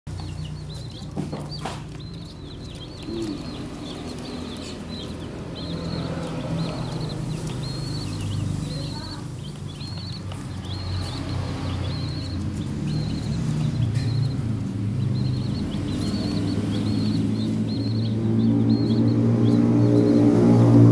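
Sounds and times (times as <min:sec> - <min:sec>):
chicks peeping: 0:00.1 - 0:20.9.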